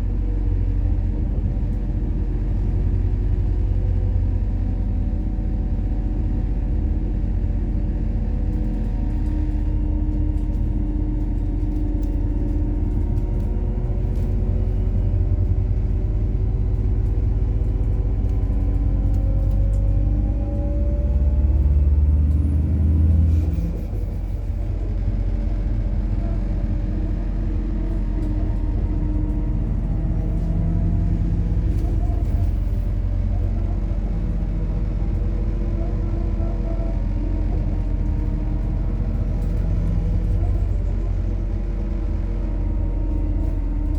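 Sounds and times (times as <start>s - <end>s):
bus engine from inside cabin: 0.0s - 43.9s
low rumble: 0.0s - 43.9s.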